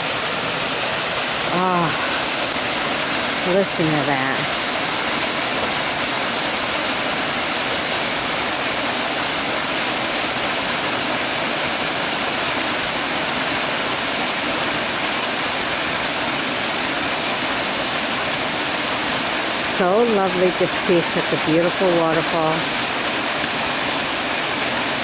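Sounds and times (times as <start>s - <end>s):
water rushing over rock: 0.0s - 25.0s.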